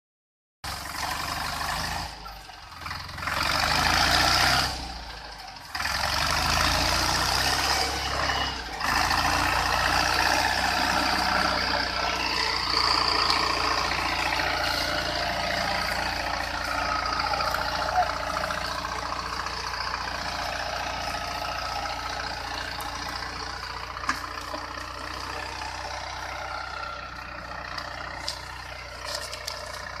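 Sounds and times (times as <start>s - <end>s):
tractor diesel engine under load: 0.6s - 30.0s.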